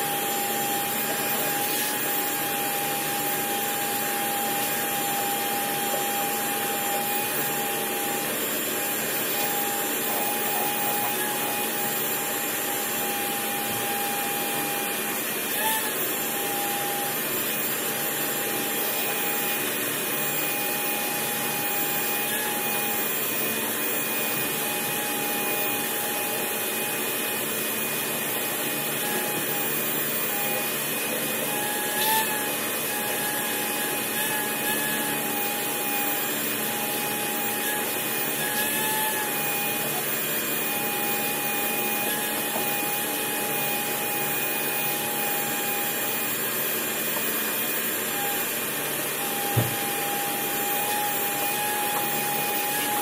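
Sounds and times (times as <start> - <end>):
shop vacuum running: 0.0 - 53.0.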